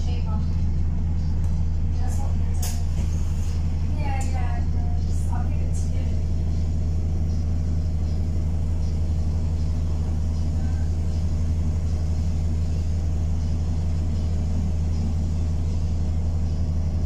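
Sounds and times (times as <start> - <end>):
bus engine droning: 0.0 - 17.0.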